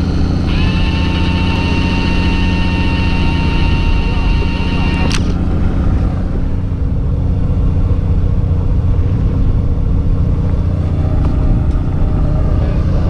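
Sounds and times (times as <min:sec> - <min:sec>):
boat engine droning: 0:00.0 - 0:13.0
constant low tones: 0:00.0 - 0:13.0.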